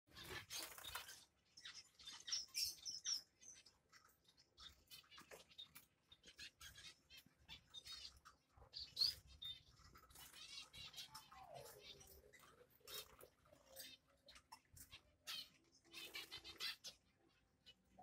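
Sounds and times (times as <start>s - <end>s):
finches chirping: 0.1s - 18.0s.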